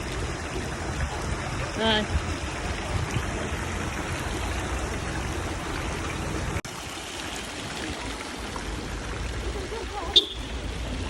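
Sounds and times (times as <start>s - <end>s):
water fountain splashing: 0.0s - 11.0s.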